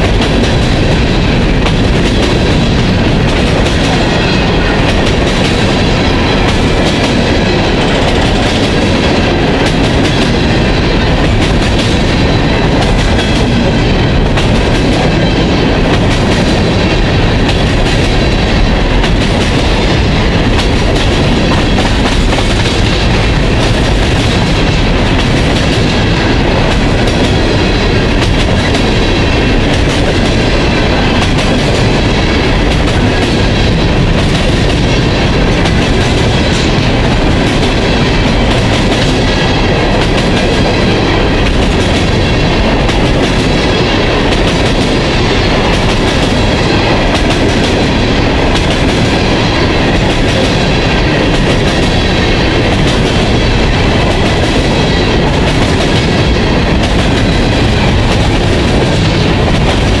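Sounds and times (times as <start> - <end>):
clickety-clack over rail joints: 0.0 - 60.0
steel wheels rumbling on rails: 0.0 - 60.0.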